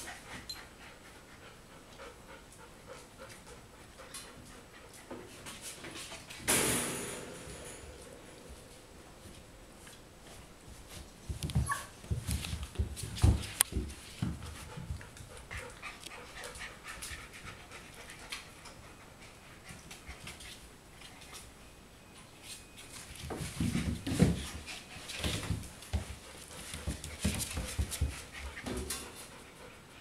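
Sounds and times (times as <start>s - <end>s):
puppies panting and scuffling: 0.0s - 6.5s, 8.4s - 30.0s.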